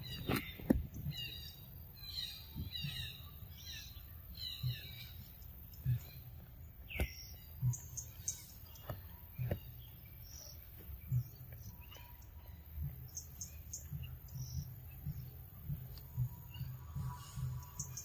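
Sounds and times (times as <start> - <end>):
birds chirping: 0.0 - 18.0
soft low thumps: 2.3 - 18.0.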